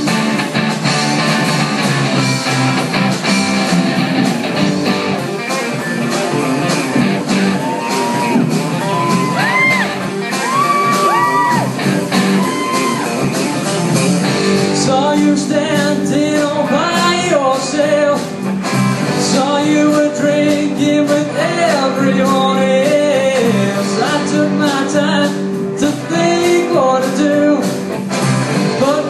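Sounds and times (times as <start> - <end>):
bass guitar: 0.0 - 29.0
drum kit: 0.0 - 29.0
electric guitars: 0.0 - 29.0.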